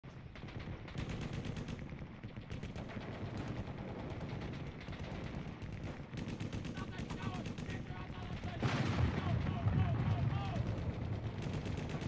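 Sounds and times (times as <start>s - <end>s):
distant explosions rumbling: 0.1s - 12.0s
machine-gun fire: 0.3s - 12.0s.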